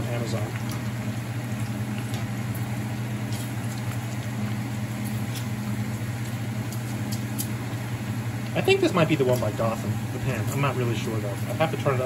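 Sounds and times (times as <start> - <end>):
bacon sizzling with pops: 0.0 - 10.8
steady low hum: 0.0 - 12.0.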